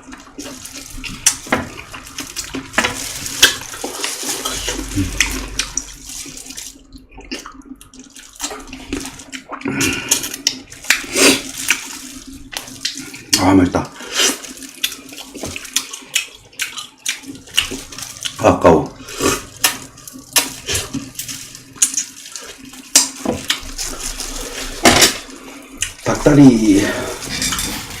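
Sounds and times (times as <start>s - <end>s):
chewing and slurping soup: 0.0s - 26.1s.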